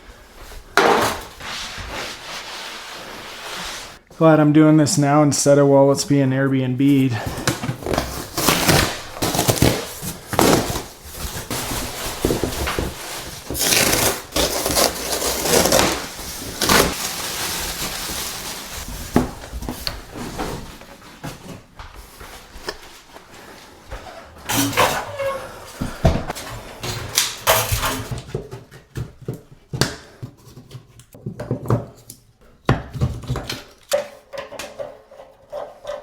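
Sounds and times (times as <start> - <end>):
handling knocks and scrapes: 0.4 - 4.1, 7.0 - 36.0.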